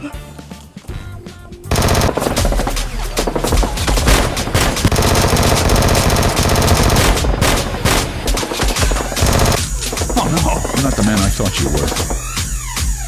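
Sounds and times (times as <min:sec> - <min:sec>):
background music: 0:00.0 - 0:13.0
machine-gun fire: 0:01.7 - 0:12.4.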